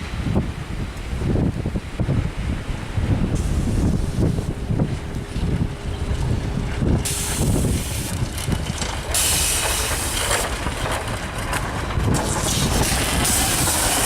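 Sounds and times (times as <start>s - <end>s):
train wheels on rails: 0.0s - 14.0s
wind buffeting microphone: 0.0s - 14.0s.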